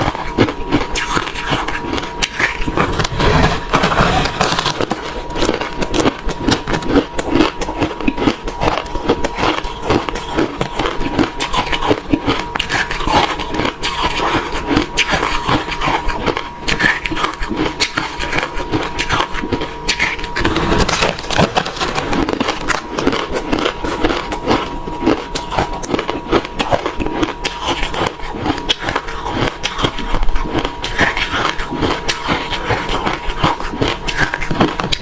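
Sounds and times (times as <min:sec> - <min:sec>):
ice being chewed: 0:00.0 - 0:35.0.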